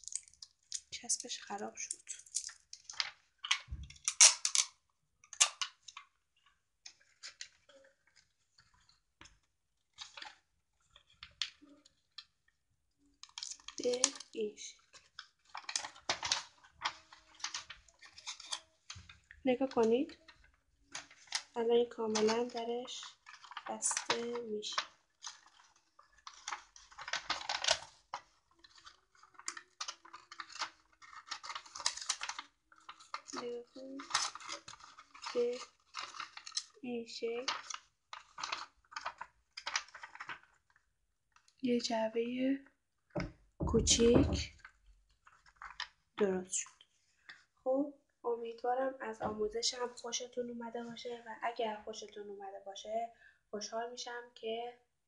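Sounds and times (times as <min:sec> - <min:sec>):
paper rustling and crinkling: 0:00.0 - 0:41.6, 0:43.2 - 0:46.0.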